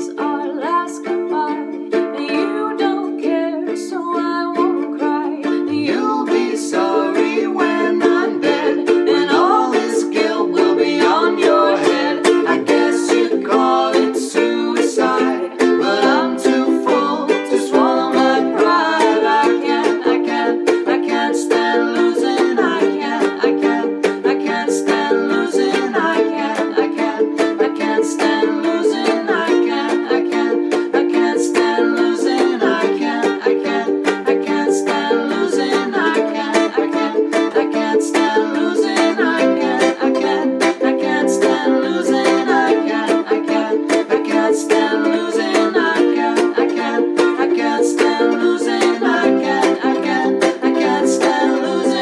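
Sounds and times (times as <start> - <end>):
ukuleles strumming: 0.0 - 52.0
voices singing wordless vocals: 0.0 - 52.0.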